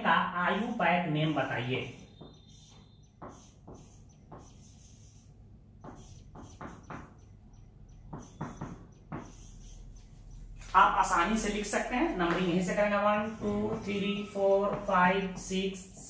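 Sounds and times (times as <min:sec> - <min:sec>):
marker squeaking on whiteboard: 0:00.6 - 0:15.4.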